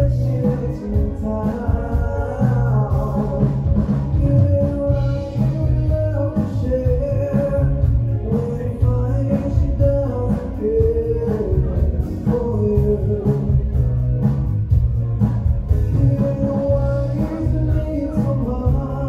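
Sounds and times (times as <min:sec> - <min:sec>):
man singing: 0:00.0 - 0:14.3, 0:15.7 - 0:19.0
live rock band: 0:00.0 - 0:19.0.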